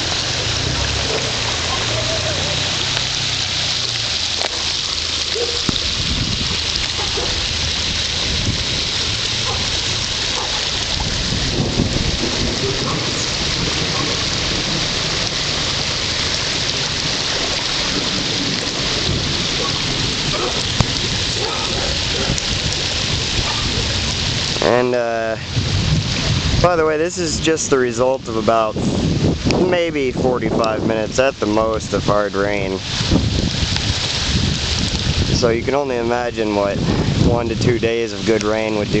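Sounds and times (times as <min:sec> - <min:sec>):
water rushing over gravel: 0:00.0 - 0:39.0.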